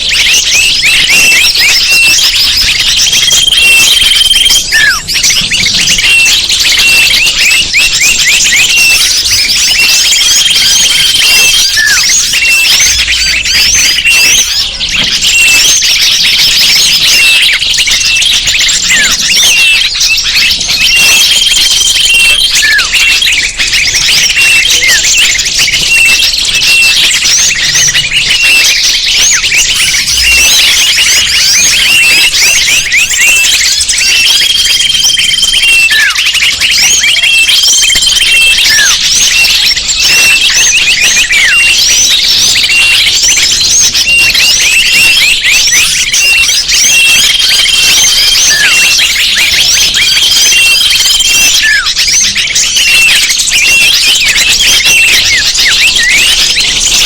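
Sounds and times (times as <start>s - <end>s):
small birds chirping and twittering: 0.0s - 57.0s.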